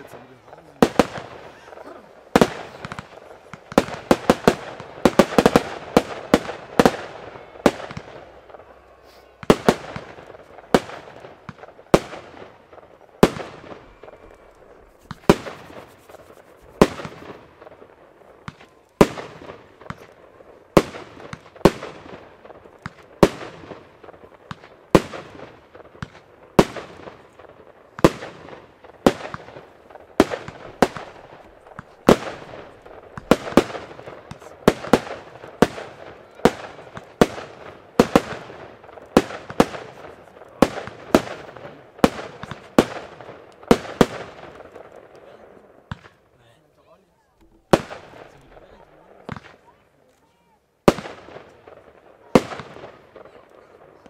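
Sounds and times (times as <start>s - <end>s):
firework bangs: 0.0s - 46.3s, 47.4s - 54.0s.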